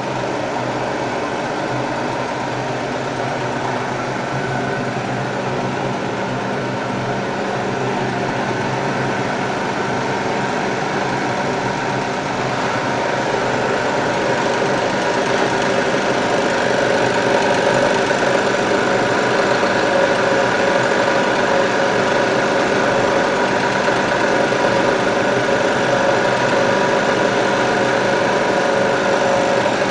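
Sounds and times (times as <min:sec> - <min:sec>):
fryer machine humming: 0:00.0 - 0:29.9.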